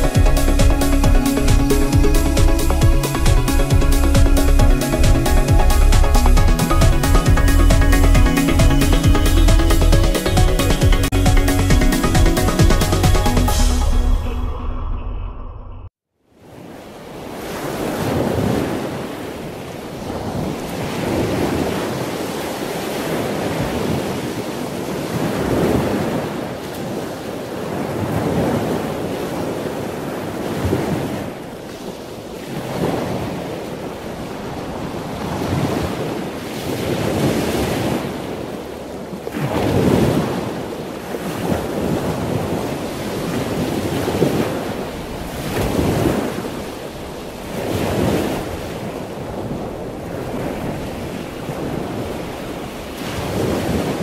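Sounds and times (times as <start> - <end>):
ocean waves rushing: 0.0 - 15.5, 16.4 - 54.0.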